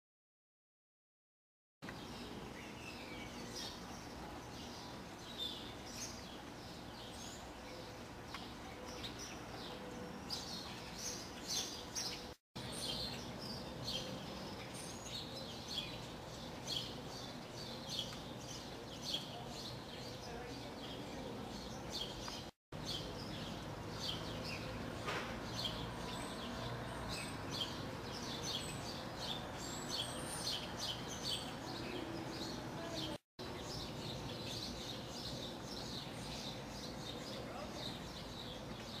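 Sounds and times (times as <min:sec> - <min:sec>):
small birds chirping: 0:01.8 - 0:39.0.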